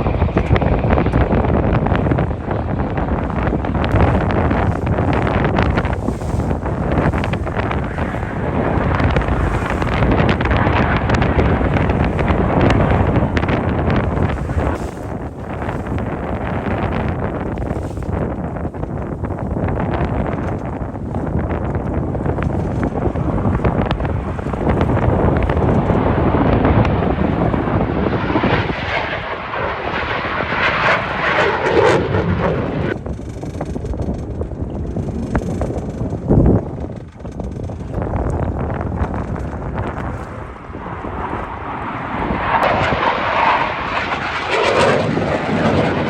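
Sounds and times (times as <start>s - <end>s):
jet aircraft flying over: 0.0s - 33.2s, 38.9s - 46.0s.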